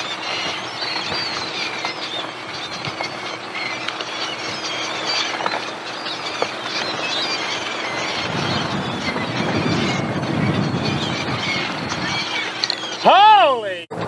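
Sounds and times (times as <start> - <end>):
seabirds calling: 0.0 - 13.9
wind: 0.0 - 14.0.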